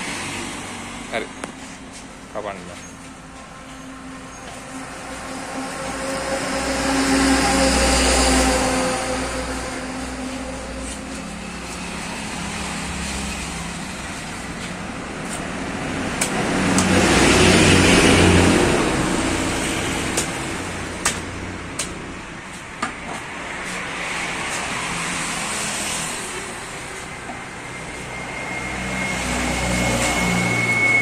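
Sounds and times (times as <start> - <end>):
vehicle passing: 0.0 - 22.6, 23.2 - 31.0.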